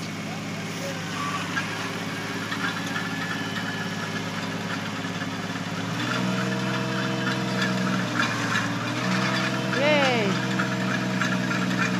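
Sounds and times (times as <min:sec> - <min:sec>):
tractor engine running: 0:00.0 - 0:11.9
vehicle engine running slowly: 0:00.0 - 0:11.9.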